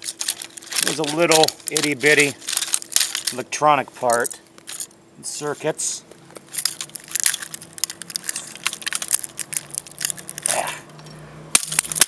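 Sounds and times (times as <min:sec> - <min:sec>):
plastic pieces crunching and clicking: 0:00.0 - 0:04.9, 0:06.3 - 0:12.0.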